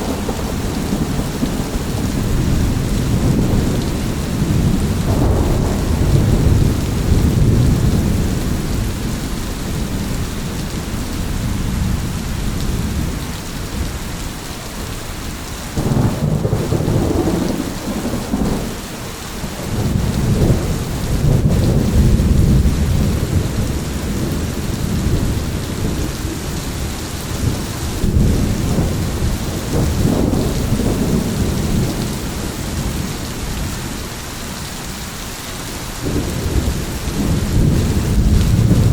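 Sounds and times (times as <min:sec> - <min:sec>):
rolling thunder: 0:00.0 - 0:14.4, 0:15.7 - 0:34.1, 0:36.0 - 0:38.9
heavy rain: 0:00.0 - 0:38.9.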